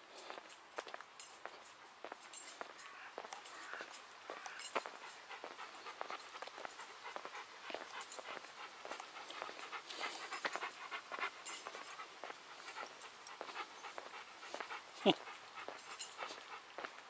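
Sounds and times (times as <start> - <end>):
dog panting: 1.3 - 17.0.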